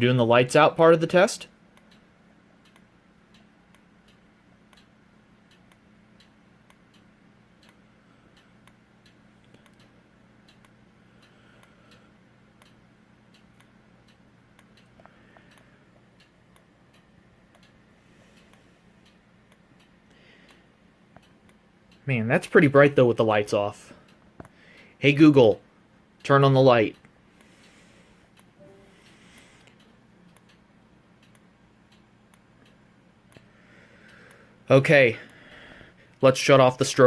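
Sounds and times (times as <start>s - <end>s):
low steady hum: 0.0s - 37.0s
faint even ticking: 1.6s - 22.7s, 26.1s - 36.2s.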